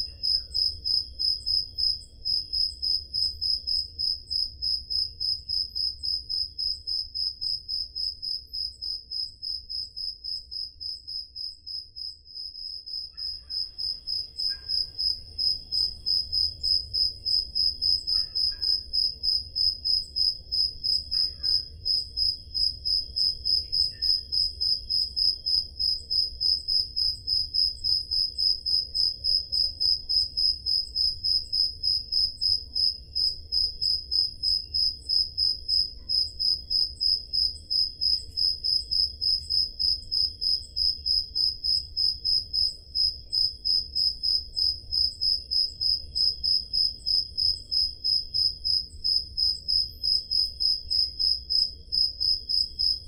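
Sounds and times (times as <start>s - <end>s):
faint cricket chirps: 0.0s - 53.0s
loud cricket chirp: 0.0s - 53.0s.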